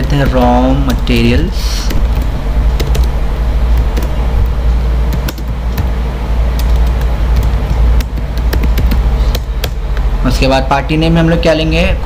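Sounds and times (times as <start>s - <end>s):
keyboard keys clicking: 0.0s - 10.0s
steady low rumble: 0.0s - 12.0s.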